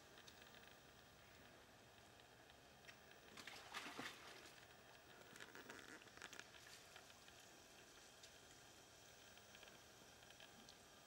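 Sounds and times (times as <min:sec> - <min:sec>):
faint water splashing and dripping: 0:00.1 - 0:11.0.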